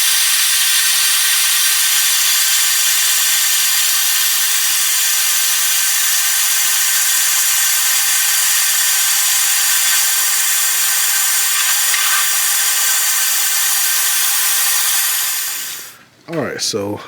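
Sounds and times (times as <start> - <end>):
compressed air hissing: 0.0 - 16.1.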